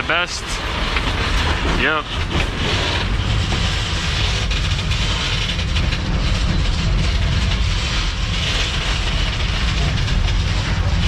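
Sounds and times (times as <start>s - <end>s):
train wheels rumbling and clattering: 0.0s - 11.0s.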